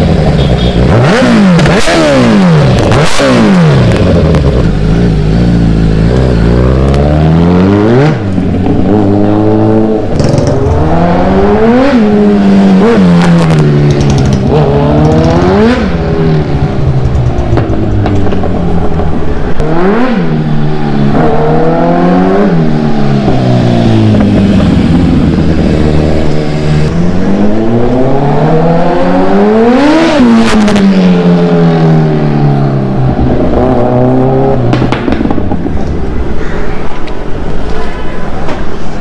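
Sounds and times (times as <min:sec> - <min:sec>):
motorcycle engine revving: 0:00.0 - 0:36.4.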